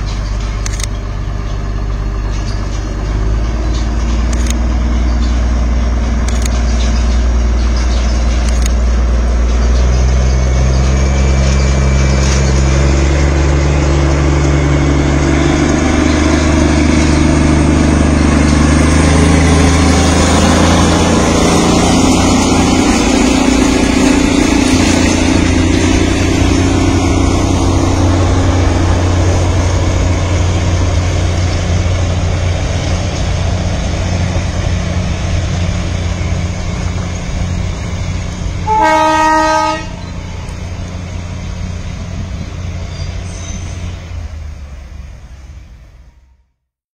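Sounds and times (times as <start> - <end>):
diesel locomotive engine drone: 0.0 - 46.7.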